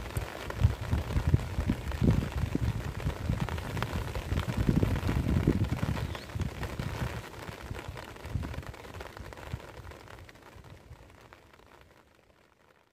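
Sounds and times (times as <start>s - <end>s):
rain falling on a field: 0.0s - 12.9s.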